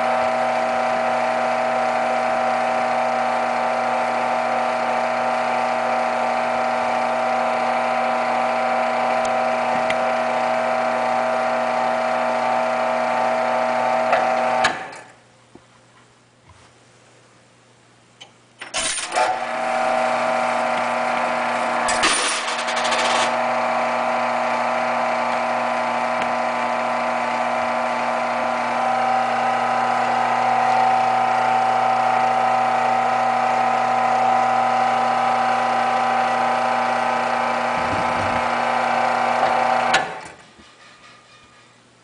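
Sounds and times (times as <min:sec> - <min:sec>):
motor and belt drive whirring: 0:00.0 - 0:15.1, 0:18.6 - 0:40.4.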